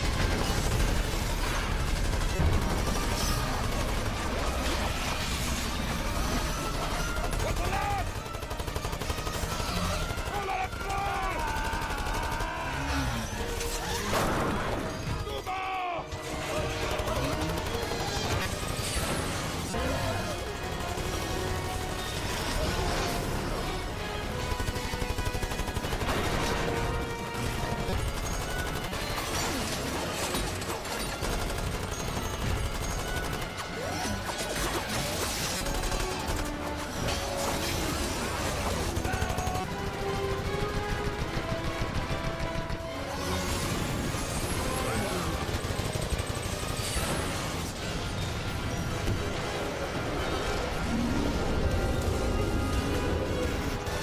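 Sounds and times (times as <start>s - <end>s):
automatic gunfire: 0.0s - 13.4s, 16.6s - 18.9s, 19.8s - 47.8s
machine-gun fire: 0.0s - 15.2s, 16.2s - 50.9s
film score music: 0.0s - 54.0s.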